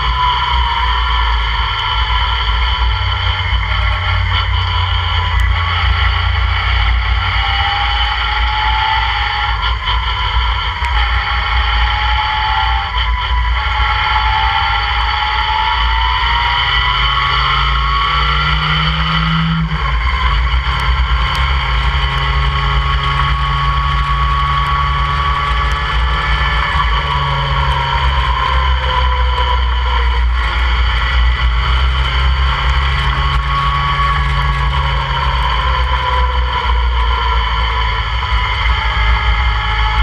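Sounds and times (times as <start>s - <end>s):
sports car engine revving: 0.0s - 40.0s
wind and road noise: 0.0s - 40.0s.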